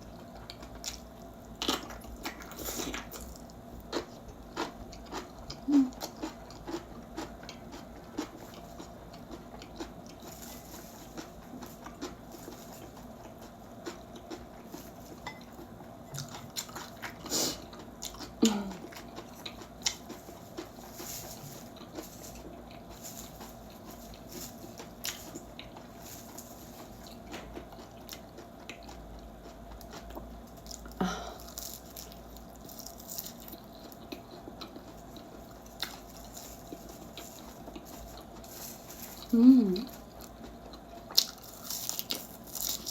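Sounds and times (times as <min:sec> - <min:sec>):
faint steady hum: 0:00.0 - 0:42.9
person chewing food: 0:00.0 - 0:42.9.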